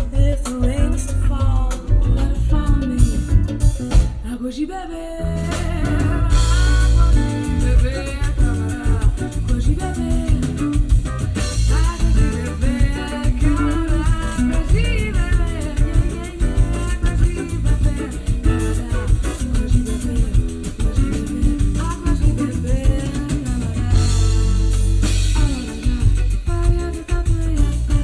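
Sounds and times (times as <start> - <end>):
drum kit: 0.0 - 4.4, 5.4 - 28.0
guitar: 0.0 - 28.0
person singing: 0.0 - 28.0.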